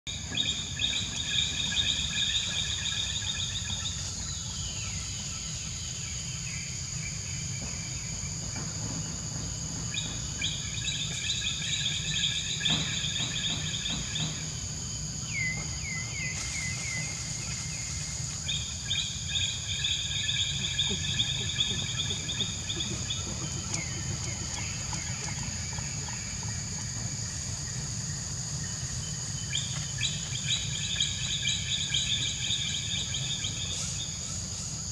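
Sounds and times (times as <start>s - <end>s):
bird calls: 0.1s - 34.9s.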